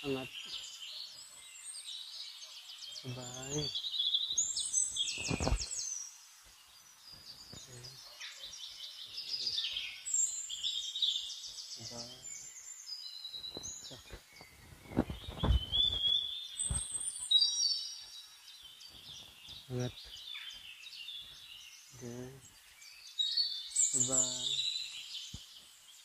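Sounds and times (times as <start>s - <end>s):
birds singing and chirping: 0.0s - 26.0s.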